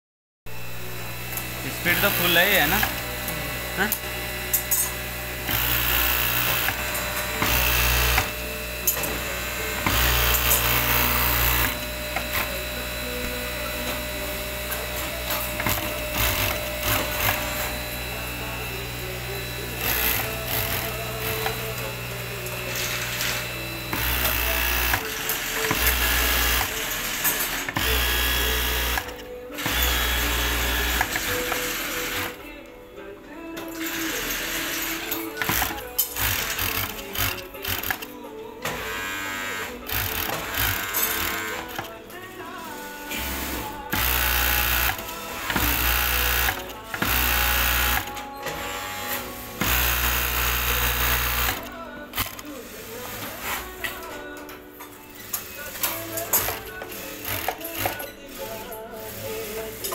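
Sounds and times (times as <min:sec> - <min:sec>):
sewing machine stitching: 0:01.3 - 0:04.1, 0:04.7 - 0:12.6, 0:14.6 - 0:18.0, 0:19.2 - 0:32.4, 0:33.8 - 0:38.1, 0:38.7 - 0:42.0, 0:42.7 - 0:53.9, 0:55.5 - 0:59.9.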